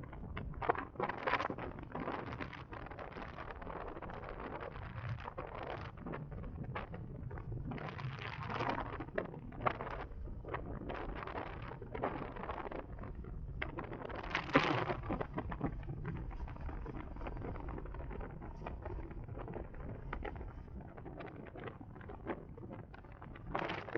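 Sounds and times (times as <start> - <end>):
sharp crackles: 0.2 - 23.9.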